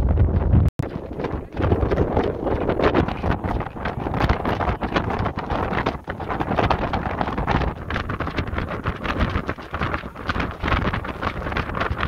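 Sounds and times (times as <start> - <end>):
wind buffeting microphone: 0.0 - 12.0
water rushing along hull: 0.8 - 12.0.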